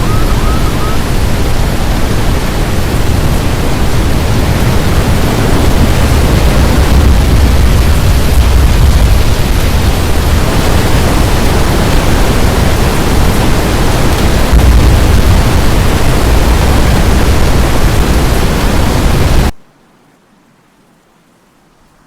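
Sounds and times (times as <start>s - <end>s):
strong wind on microphone: 0.0s - 19.6s.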